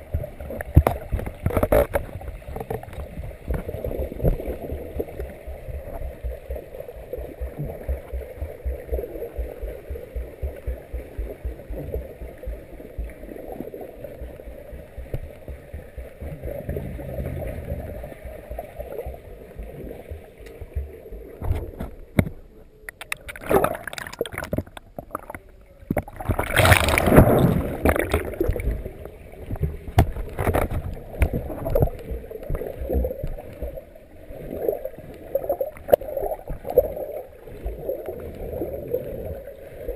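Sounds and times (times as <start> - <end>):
muffled underwater rush: 0.0 - 39.9
water sloshing and bubbling: 0.0 - 39.9.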